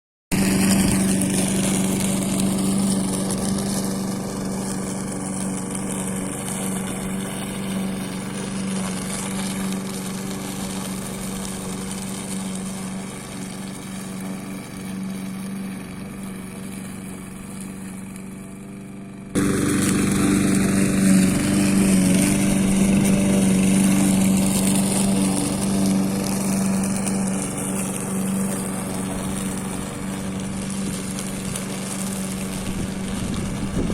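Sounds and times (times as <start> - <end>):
lawn mower mulching leaves: 0.3 - 33.9.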